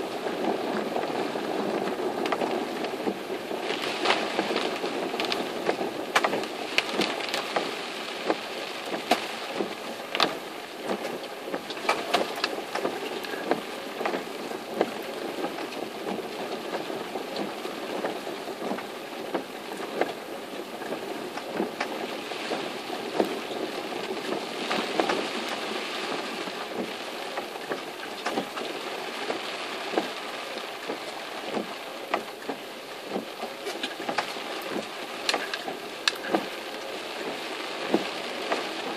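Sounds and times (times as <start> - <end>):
heavy rain on car roof: 0.0 - 38.9
wet road noise: 0.0 - 38.9.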